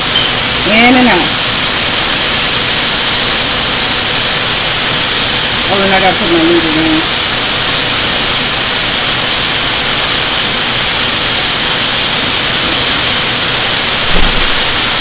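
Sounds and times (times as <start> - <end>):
chicken sizzling in frying grease: 0.0 - 15.0.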